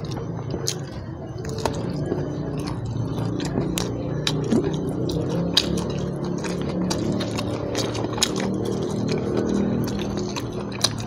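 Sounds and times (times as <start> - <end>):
person chewing wetly: 0.0 - 11.0.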